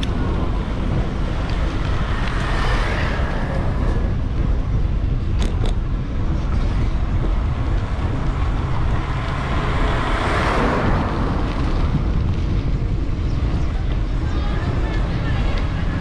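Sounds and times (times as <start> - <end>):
street traffic: 0.0 - 16.0
vehicle passing: 0.0 - 16.0
wind on microphone: 0.0 - 16.0.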